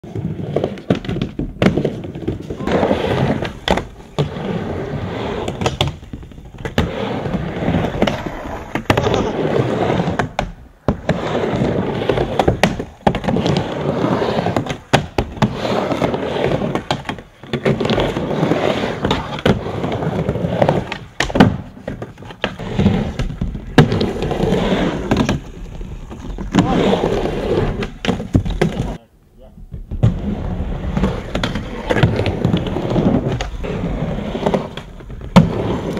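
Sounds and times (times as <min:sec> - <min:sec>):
skateboard wheels rolling: 0:00.0 - 0:29.0, 0:29.6 - 0:35.9.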